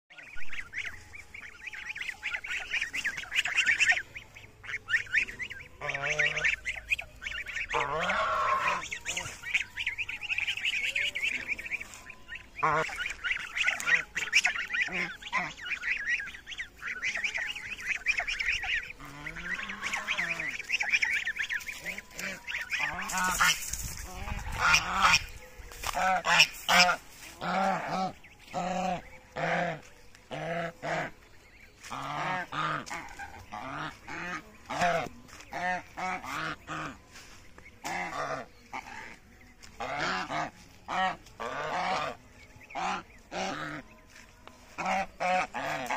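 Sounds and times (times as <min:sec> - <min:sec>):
geese honking: 0:00.1 - 0:45.9
high chatter of goose calls: 0:00.1 - 0:45.9.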